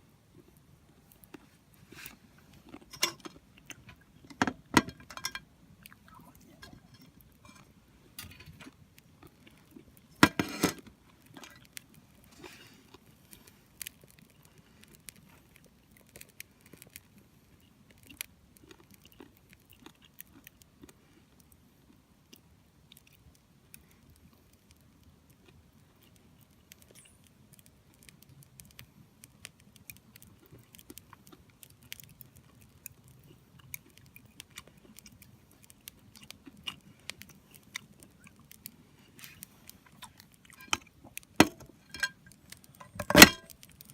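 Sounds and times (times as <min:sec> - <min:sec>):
wood fire crackling: 0:00.1 - 0:43.9.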